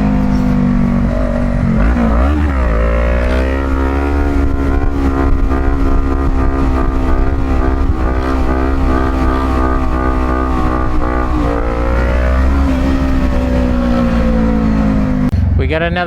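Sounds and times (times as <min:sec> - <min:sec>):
wind rumble on microphone: 0:00.0 - 0:15.3
motorcycle engine: 0:00.0 - 0:15.9.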